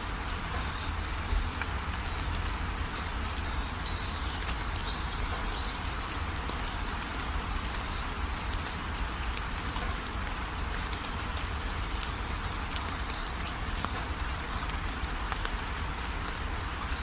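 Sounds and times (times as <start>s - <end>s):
rain falling: 0.0s - 17.0s
raindrops ticking: 0.0s - 17.0s.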